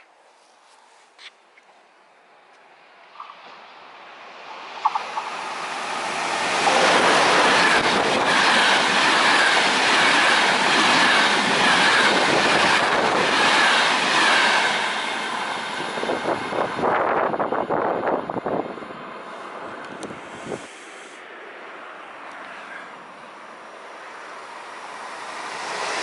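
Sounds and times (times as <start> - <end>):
train passing at speed: 2.2 - 26.0.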